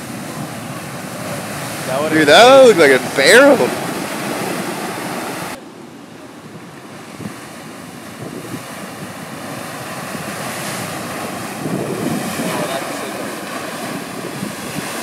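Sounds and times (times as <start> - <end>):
waves breaking on rocky shore: 0.0 - 15.0.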